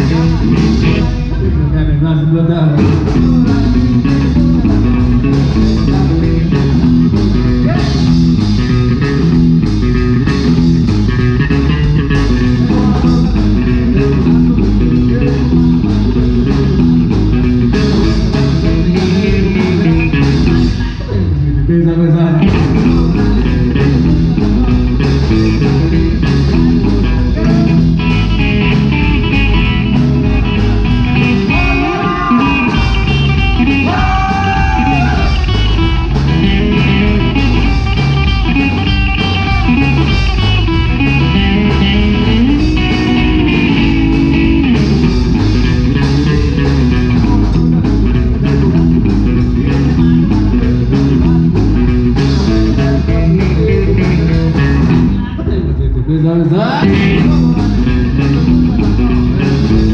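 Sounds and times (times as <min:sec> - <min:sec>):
drum kit: 0:00.0 - 0:21.7, 0:22.4 - 0:56.1, 0:56.7 - 0:59.9
electric bass: 0:00.0 - 0:59.9
electric guitar: 0:00.0 - 0:59.9.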